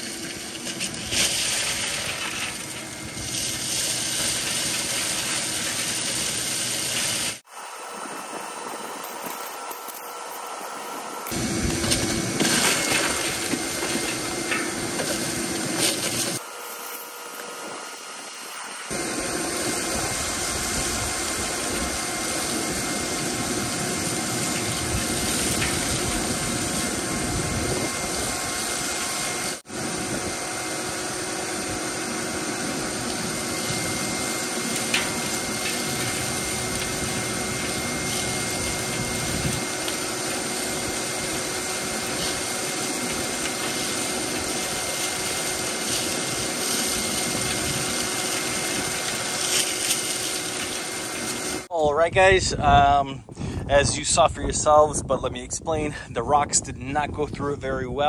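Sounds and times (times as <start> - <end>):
shop vacuums running: 0.0 - 54.2.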